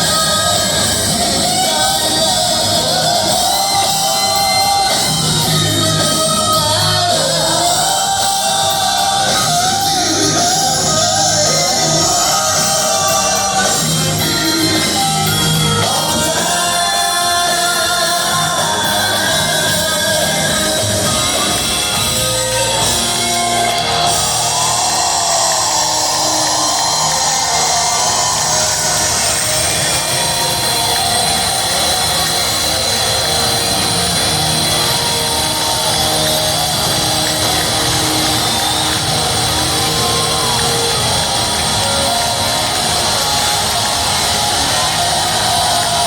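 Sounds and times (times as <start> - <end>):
live rock band playing: 0.0 - 46.0
person singing lead vocal: 0.0 - 46.0.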